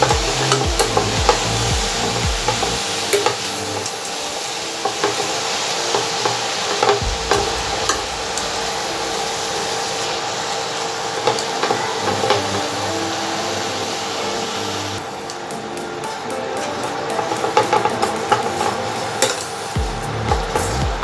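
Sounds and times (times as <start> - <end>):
spinach sizzling in oil: 0.0 - 20.7.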